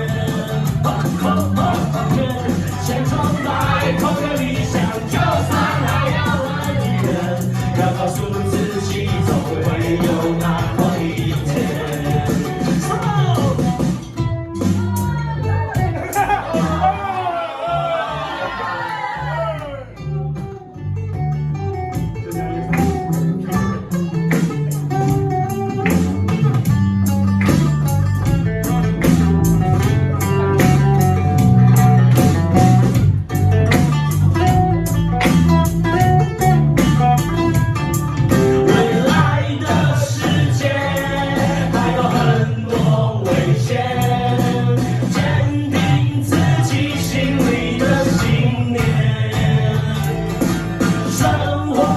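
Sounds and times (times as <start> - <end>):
steady drum beat: 0.0 - 17.3, 22.0 - 51.9
bass line: 0.0 - 51.9
guitar: 0.0 - 51.9.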